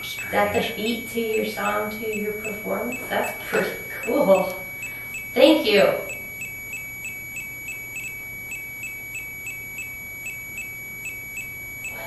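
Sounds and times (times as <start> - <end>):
meter short beeps: 0.0 - 12.0
steady high tone: 0.0 - 12.0.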